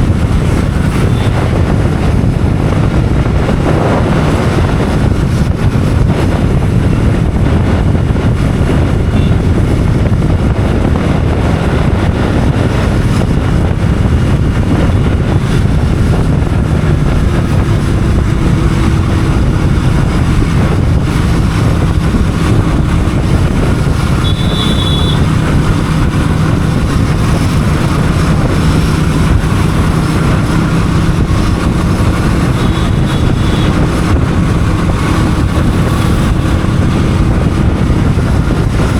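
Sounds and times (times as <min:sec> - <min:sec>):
motorcycle engine drone: 0:00.0 - 0:38.9
wind rushing over microphone: 0:00.0 - 0:38.9.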